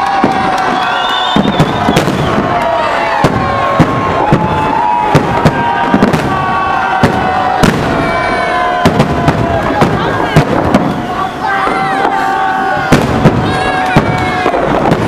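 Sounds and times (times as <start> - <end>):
firework shells bursting: 0.0 - 15.0
fireworks crackling: 0.0 - 15.0
fireworks whistling: 0.0 - 15.0.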